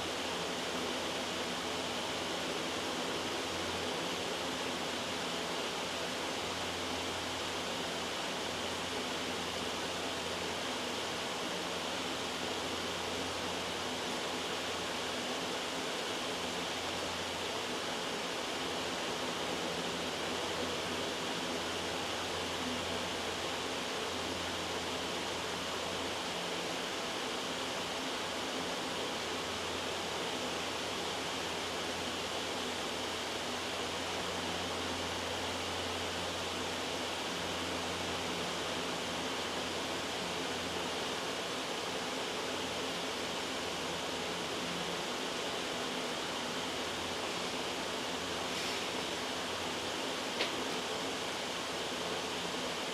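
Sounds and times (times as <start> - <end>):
white noise hiss: 0.0 - 52.9.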